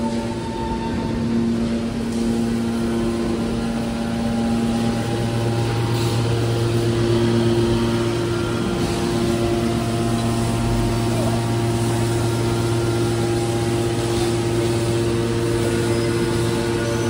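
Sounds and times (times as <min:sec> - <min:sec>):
hydraulic machinery humming: 0:00.0 - 0:17.0.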